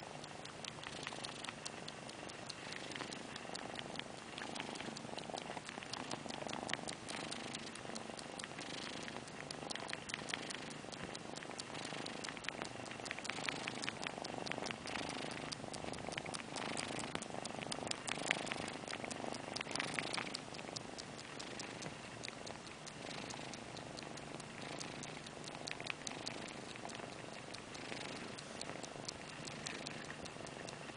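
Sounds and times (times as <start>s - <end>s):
cat purring: 0.0s - 30.9s
wet sucking clicks: 0.0s - 30.9s.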